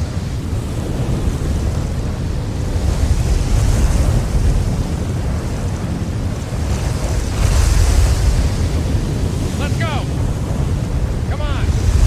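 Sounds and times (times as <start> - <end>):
loud rushing wind: 0.0 - 12.0.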